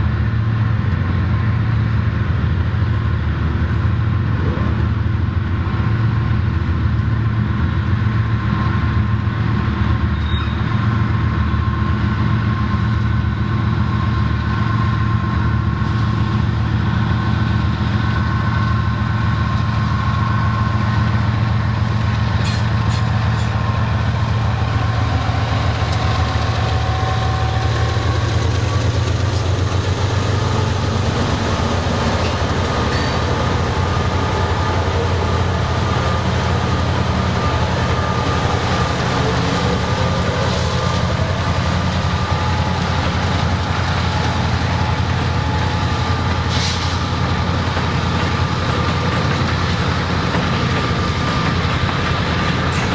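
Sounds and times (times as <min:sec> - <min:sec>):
diesel locomotive engine drone: 0:00.0 - 0:52.9
steel wheels rolling on rail: 0:00.0 - 0:52.9.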